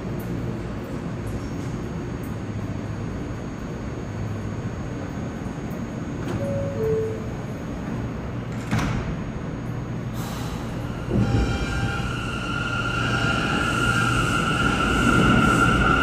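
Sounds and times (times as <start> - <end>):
train high whine: 0.0 - 8.4, 9.6 - 16.0
subway train low rumble: 0.0 - 16.0.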